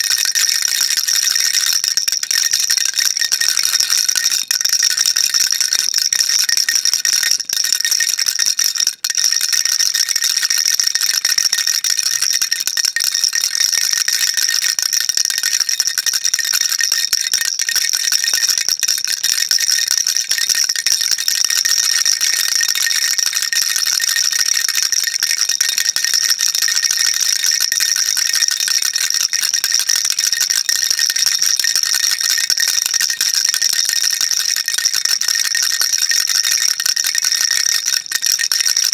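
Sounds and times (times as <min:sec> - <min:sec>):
baby rattle shaking: 0:00.0 - 0:38.9.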